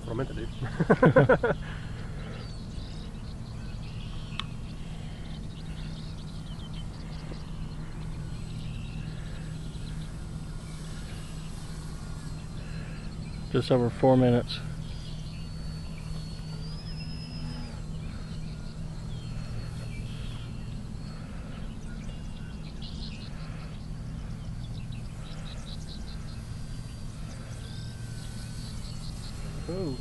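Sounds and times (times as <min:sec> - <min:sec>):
low hum: 0:00.0 - 0:30.0
small birds chirping: 0:00.0 - 0:30.0.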